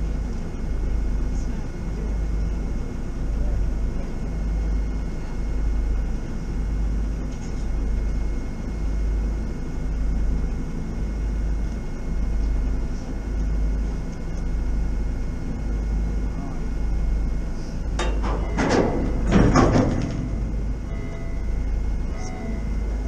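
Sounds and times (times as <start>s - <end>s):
ship machinery hum: 0.0s - 23.0s.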